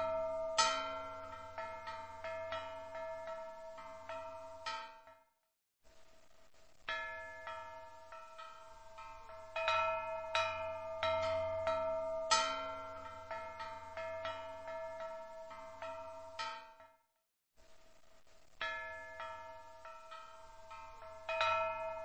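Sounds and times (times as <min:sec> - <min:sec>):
large steel wind bell ringing: 0:00.0 - 0:05.0, 0:06.9 - 0:16.8, 0:18.6 - 0:22.0.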